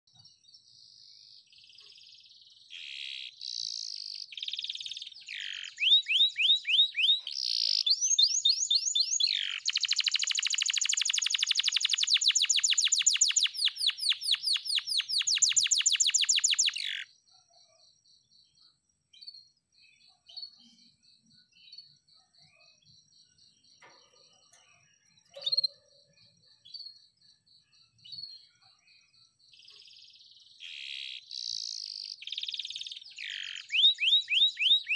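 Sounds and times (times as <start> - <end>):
short bird chirps: 0.1 - 17.8, 19.2 - 34.9
canary singing trills: 0.8 - 34.9.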